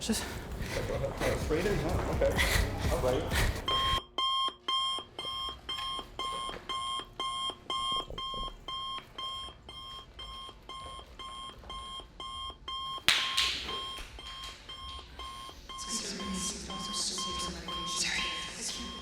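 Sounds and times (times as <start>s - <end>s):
alarm clock beeping: 3.0s - 19.0s.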